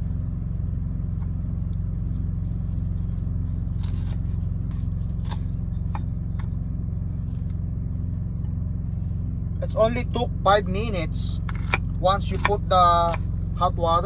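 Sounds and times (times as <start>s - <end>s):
engine idling drone: 0.0s - 14.0s.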